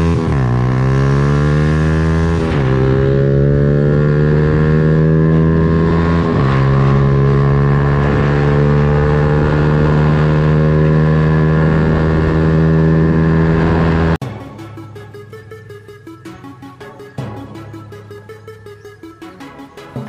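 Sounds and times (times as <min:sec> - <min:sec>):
motorcycle engine accelerating: 0:00.0 - 0:19.4.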